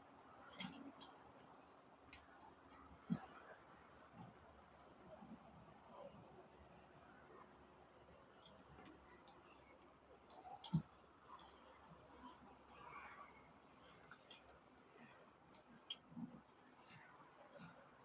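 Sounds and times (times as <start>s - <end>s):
insects: 0.0s - 18.0s.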